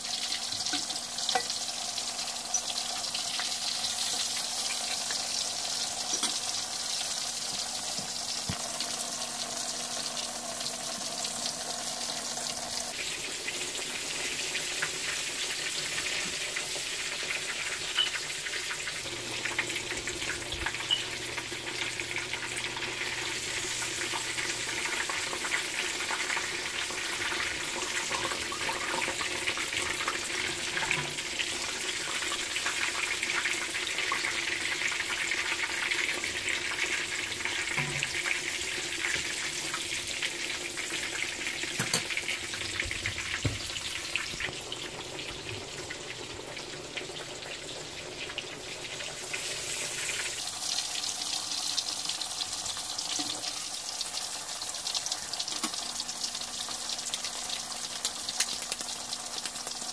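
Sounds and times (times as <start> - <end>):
meat frying in oil: 0.0 - 59.9.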